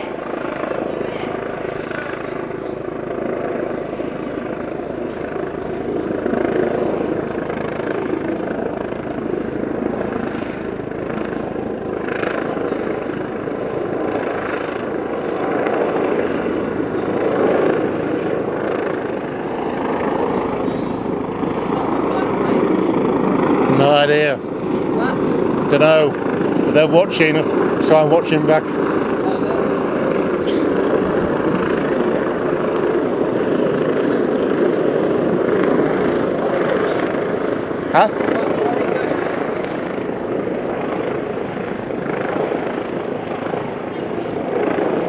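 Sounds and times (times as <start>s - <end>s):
helicopter rotor drone: 0.0s - 45.0s.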